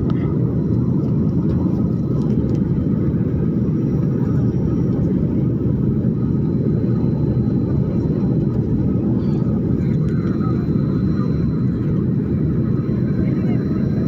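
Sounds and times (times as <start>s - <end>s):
airliner cabin roar: 0.0s - 14.0s.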